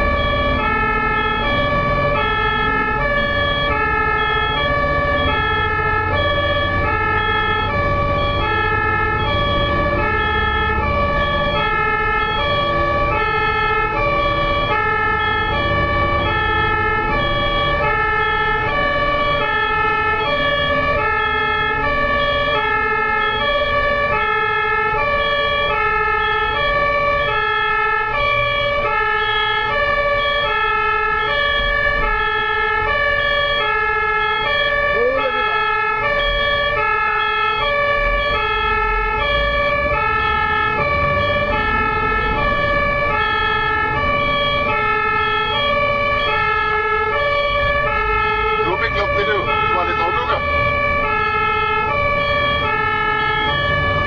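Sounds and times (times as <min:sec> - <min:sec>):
ambulance two-tone siren: 0:00.0 - 0:54.0
traffic and engine rumble: 0:00.0 - 0:54.0.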